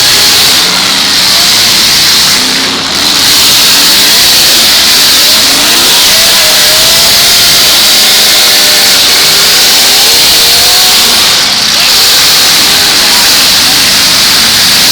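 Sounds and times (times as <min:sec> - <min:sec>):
car engines revving: 0:00.0 - 0:14.9.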